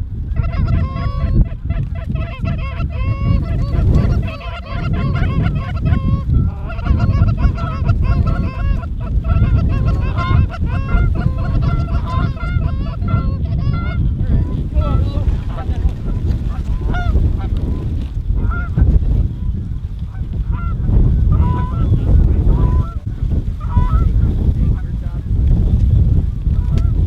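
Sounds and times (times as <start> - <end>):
wind rumble on microphone: 0.0 - 27.0
geese honking: 0.3 - 18.8, 19.5 - 25.0.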